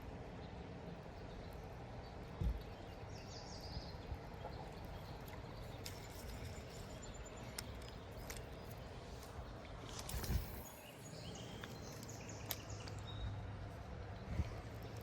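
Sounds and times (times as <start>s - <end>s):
bird chirp: 0.3s - 13.5s.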